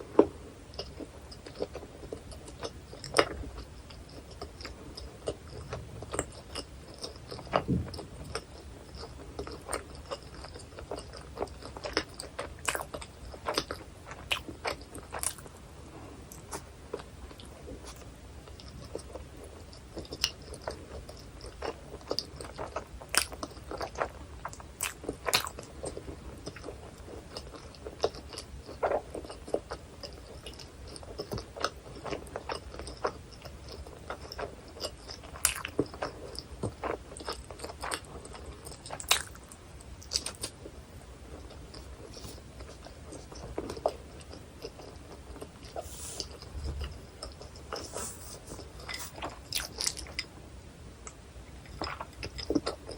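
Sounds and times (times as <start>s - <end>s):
biting and chewing food: 0.0s - 50.4s, 51.0s - 52.9s.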